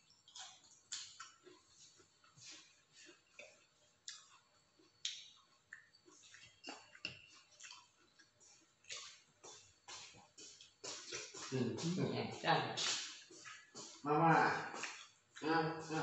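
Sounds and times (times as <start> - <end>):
biting and chewing: 0.0 - 11.6, 12.8 - 16.0.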